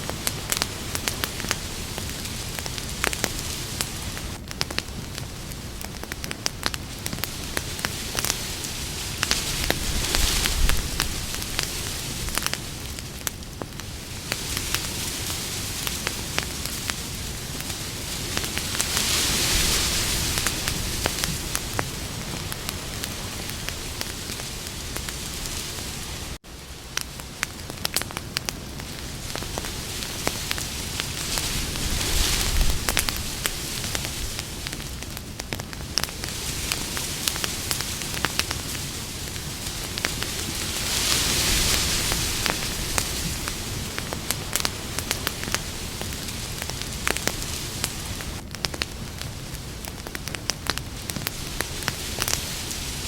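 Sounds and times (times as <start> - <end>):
campfire crackling and popping: 0.0 - 53.0
steady fire hiss: 0.0 - 53.0.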